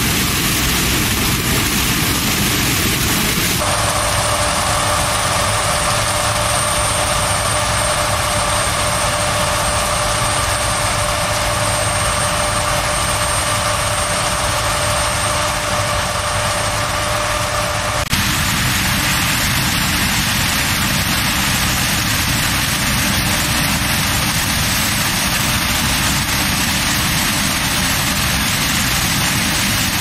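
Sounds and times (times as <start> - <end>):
combine harvester running: 0.0 - 30.0
steady whining tones: 0.0 - 30.0.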